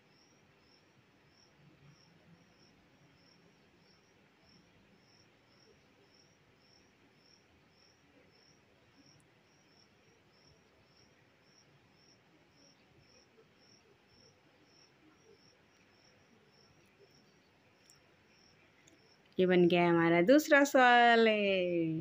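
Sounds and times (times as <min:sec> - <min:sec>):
insect chirping faintly: 0:00.0 - 0:22.0.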